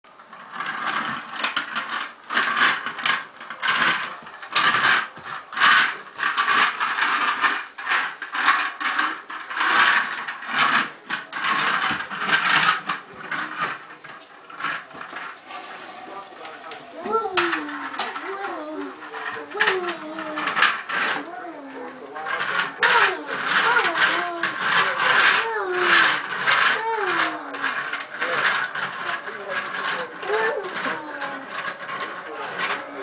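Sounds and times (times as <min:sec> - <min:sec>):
toy truck wheels rattling on floor: 0:00.0 - 0:33.0.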